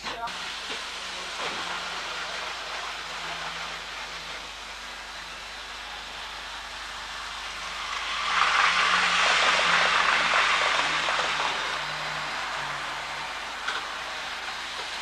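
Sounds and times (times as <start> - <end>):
model train running on track: 0.0 - 15.0
steady hiss: 0.0 - 15.0.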